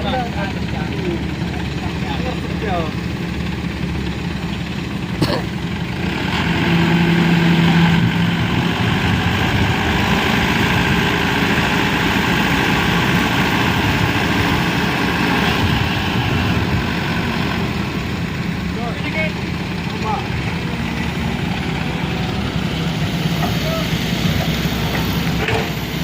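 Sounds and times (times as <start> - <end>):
heavy vehicle engine running: 0.0 - 26.0.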